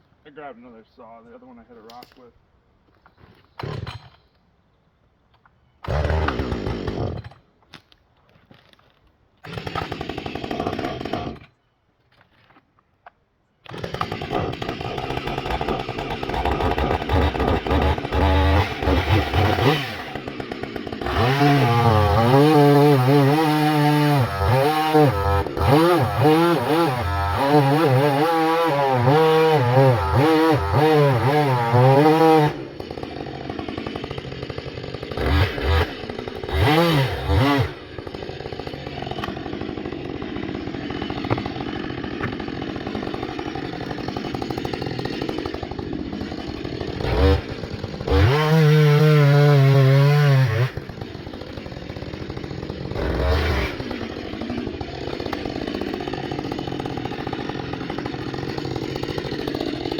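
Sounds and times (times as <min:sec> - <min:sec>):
chainsaw revving and idling: 0:05.8 - 0:07.3, 0:09.4 - 0:11.5, 0:13.7 - 0:59.9.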